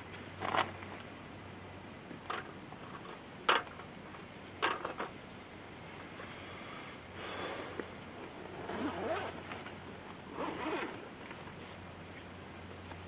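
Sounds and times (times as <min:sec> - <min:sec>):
low steady hum: 0:00.0 - 0:13.0
faint rustle: 0:02.0 - 0:13.0.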